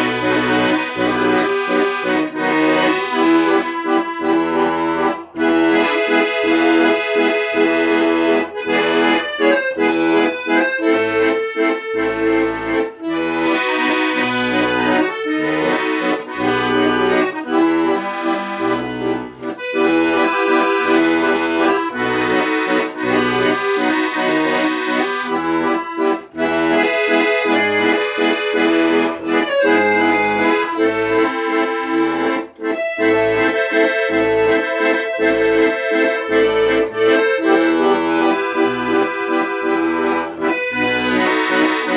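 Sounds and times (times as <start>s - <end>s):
accordion music: 0.0s - 41.9s
pulsing bass accompaniment: 0.0s - 41.9s.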